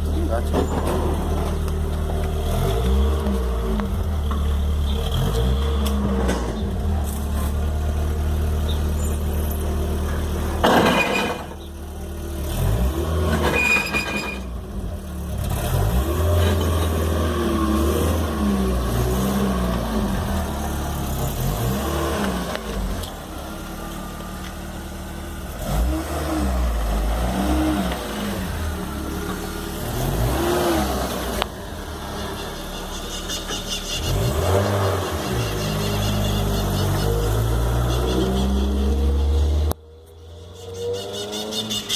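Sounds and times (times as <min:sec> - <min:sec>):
car engine revving: 0:00.0 - 0:11.0, 0:14.6 - 0:39.8.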